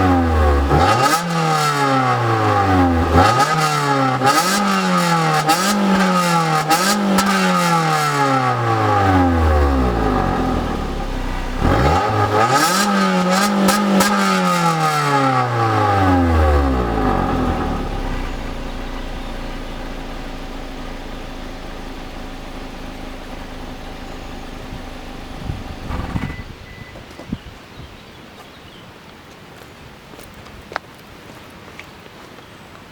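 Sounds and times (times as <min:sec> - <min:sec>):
car engine revving and idling: 0:00.0 - 0:26.8.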